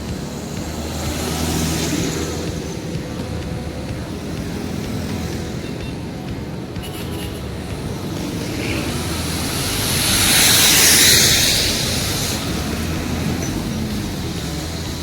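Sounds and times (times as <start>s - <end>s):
heavy truck driving past: 0.0s - 15.0s.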